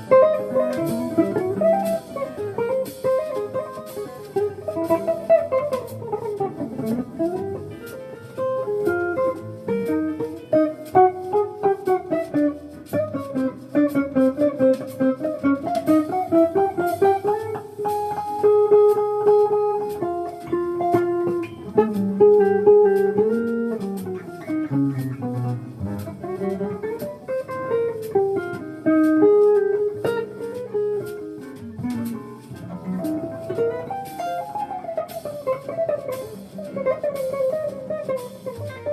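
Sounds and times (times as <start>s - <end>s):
jazz guitar playing: 0.0s - 38.9s.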